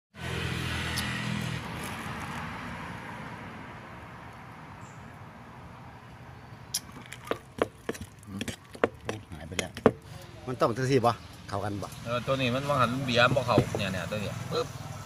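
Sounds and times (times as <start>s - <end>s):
rushing noise of passing vehicle: 0.2s - 7.9s, 9.9s - 15.0s
vehicle engine hum: 0.2s - 15.0s.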